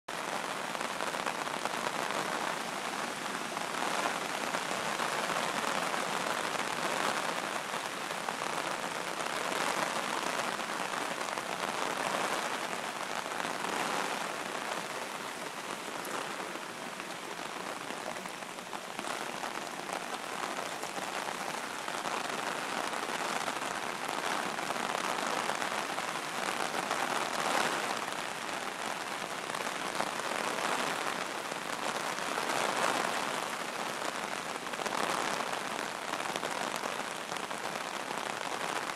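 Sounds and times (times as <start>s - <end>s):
heavy rain pouring: 0.1s - 38.9s.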